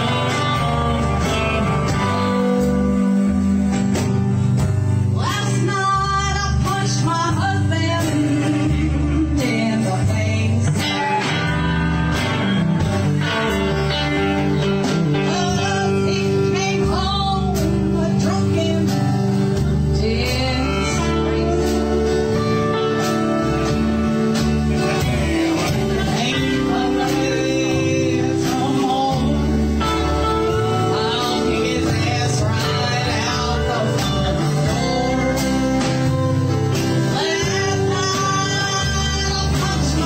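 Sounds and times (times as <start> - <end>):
acoustic guitar: 0.0 - 40.0
electric bass: 0.0 - 40.0
steady drum beat: 0.0 - 40.0
steel guitar: 0.0 - 40.0.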